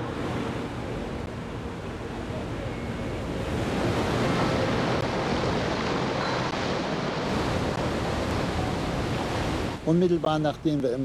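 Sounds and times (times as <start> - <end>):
wind and sea rushing: 0.0 - 10.8.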